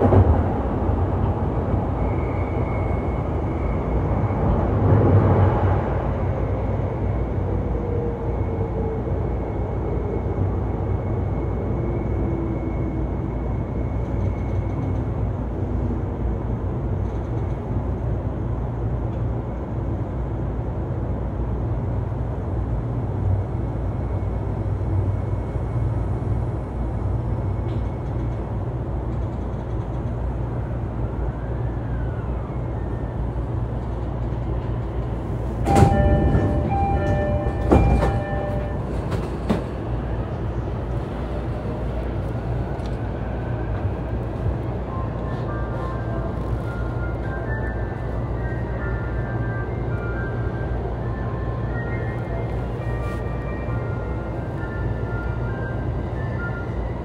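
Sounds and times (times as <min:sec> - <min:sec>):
train wheels and motors rumbling: 0:00.0 - 0:57.0.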